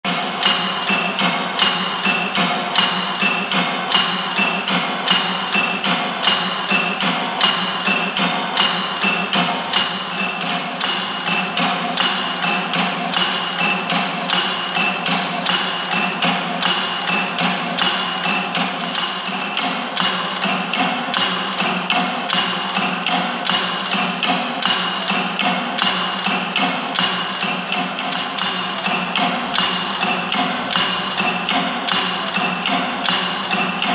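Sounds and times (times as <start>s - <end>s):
rhythmic wooden knocks: 0.1s - 33.9s.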